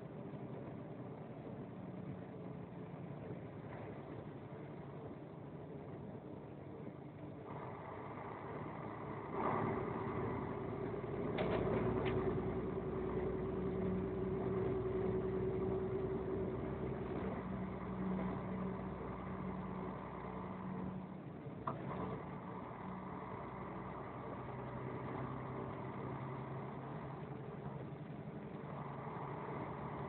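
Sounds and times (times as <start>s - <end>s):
vehicle engine and road hum: 0.0s - 30.0s.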